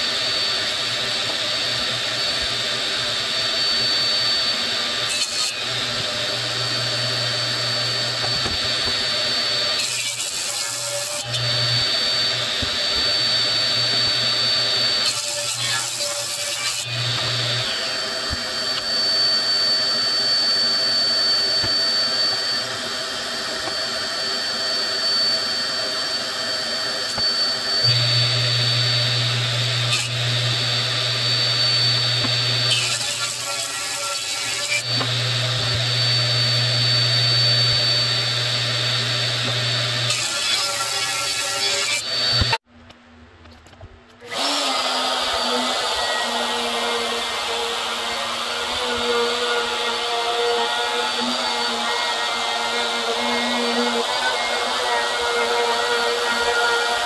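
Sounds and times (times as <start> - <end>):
table saw whining: 0.0 - 42.6, 44.2 - 57.0
saw blade cutting wood: 3.6 - 42.6, 44.2 - 57.0.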